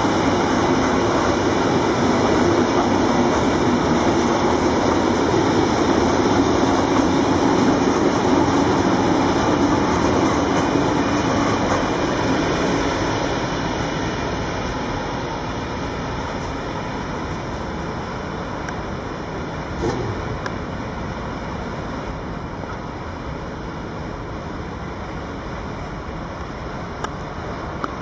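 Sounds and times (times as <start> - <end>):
freight train wheels on rails: 0.0 - 28.0.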